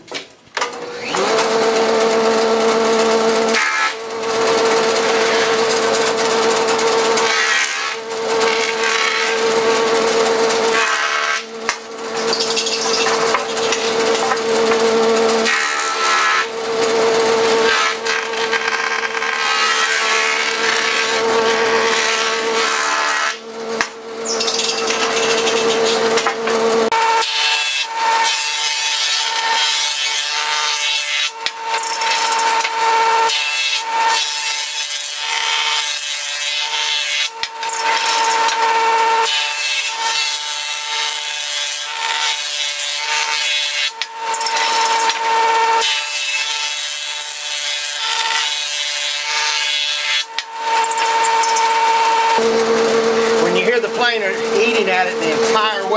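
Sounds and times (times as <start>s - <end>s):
jointer motor whine: 0.1s - 55.9s
cutterhead rasping wood: 0.9s - 52.5s.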